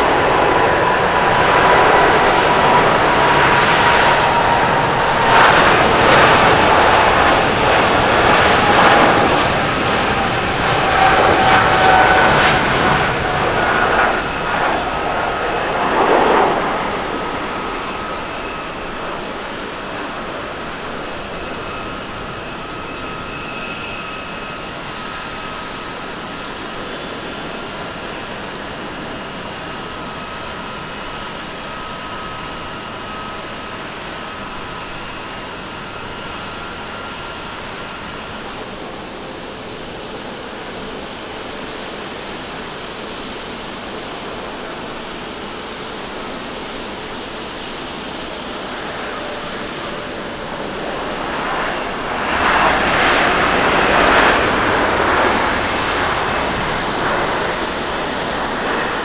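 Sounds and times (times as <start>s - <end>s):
jet engines rushing: 0.0s - 59.0s
louder jet noise from airliner: 0.0s - 59.0s
thin jet whine: 0.0s - 59.0s.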